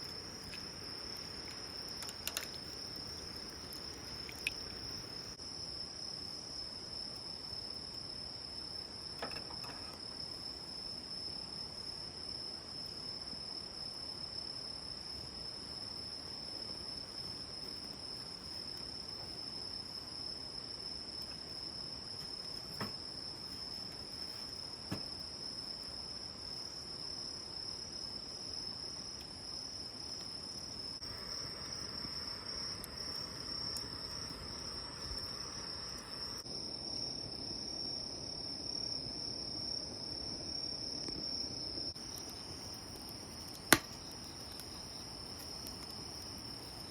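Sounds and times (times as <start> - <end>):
crickets singing: 0.0 - 46.9.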